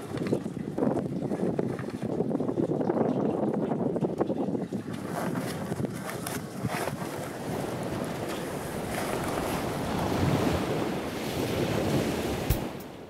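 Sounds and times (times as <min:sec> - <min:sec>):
sea water washing around boat: 0:00.0 - 0:13.0
wind buffeting microphone: 0:00.0 - 0:13.0.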